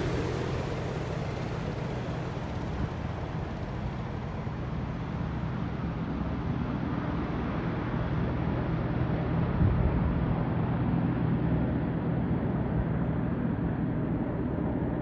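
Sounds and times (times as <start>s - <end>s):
helicopter rotor hum: 0.0s - 15.0s.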